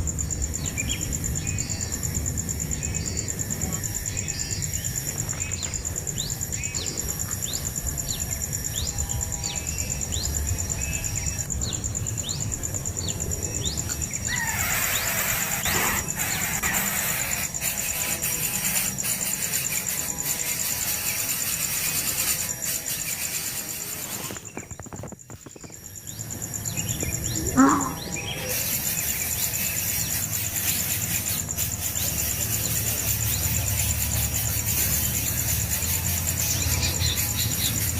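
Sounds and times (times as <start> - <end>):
high-pitched insect trill: 0.0 - 37.9.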